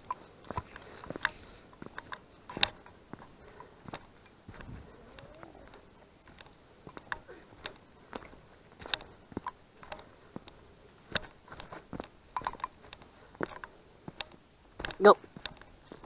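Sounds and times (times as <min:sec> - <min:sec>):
light clicks and taps: 0:00.0 - 0:16.0.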